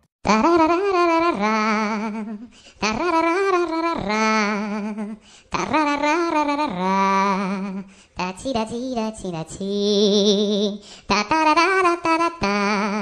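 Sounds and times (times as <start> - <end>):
voice singing wordlessly: 0.2 - 13.0.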